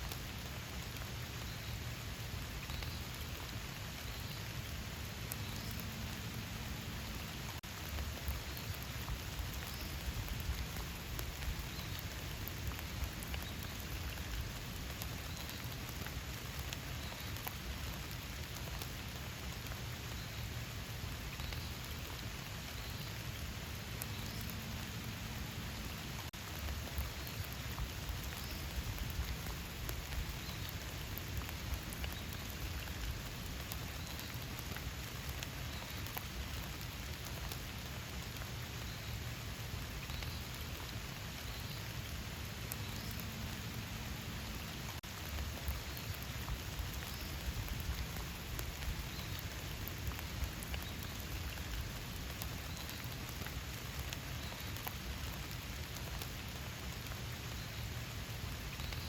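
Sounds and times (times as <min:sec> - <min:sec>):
single raindrops ticking: 0:00.0 - 0:59.0
steady rain falling: 0:00.0 - 0:59.0.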